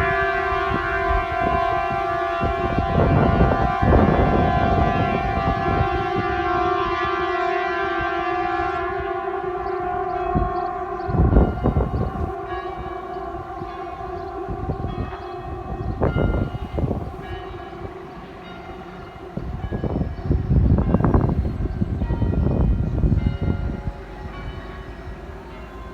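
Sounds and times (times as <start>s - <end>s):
air-raid siren steady tone: 0.0s - 25.9s
low rumbling city noise: 0.0s - 25.9s.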